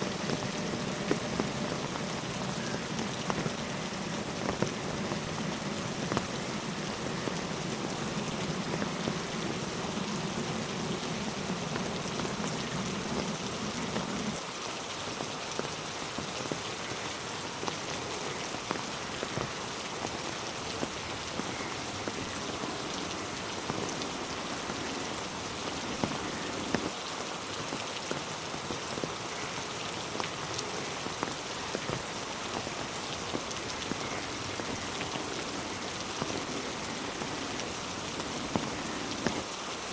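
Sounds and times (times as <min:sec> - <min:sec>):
rain falling on road and trees: 0:00.0 - 0:39.9.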